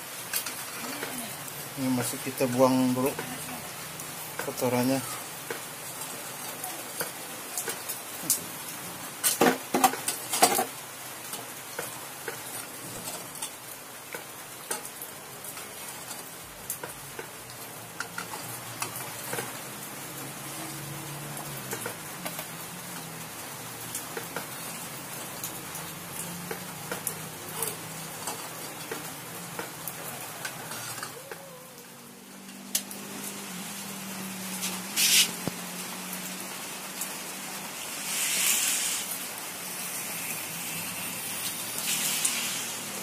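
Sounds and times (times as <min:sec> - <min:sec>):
molten metal hissing and crackling: 0:00.0 - 0:43.0.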